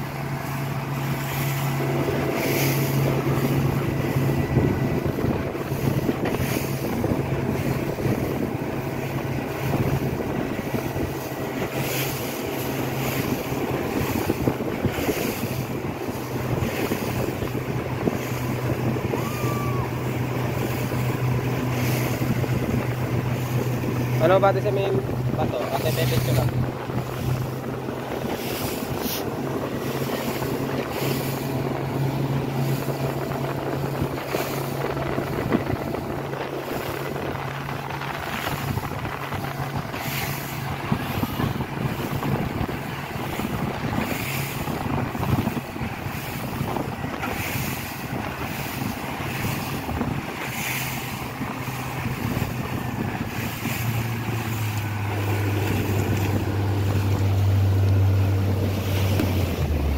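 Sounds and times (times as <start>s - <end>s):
outboard motor running: 0.0s - 59.9s
water rushing past hull: 0.0s - 59.9s
wind buffeting microphone: 0.0s - 59.9s.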